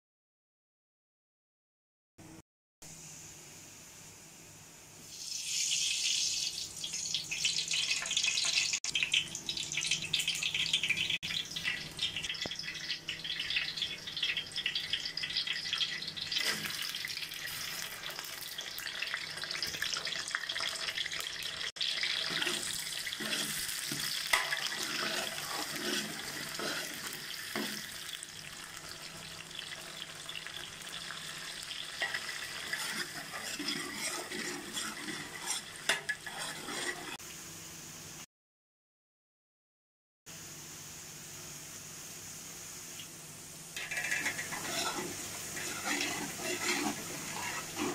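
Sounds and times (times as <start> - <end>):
onions sizzling in oil: 4.9 - 37.8, 40.9 - 47.9.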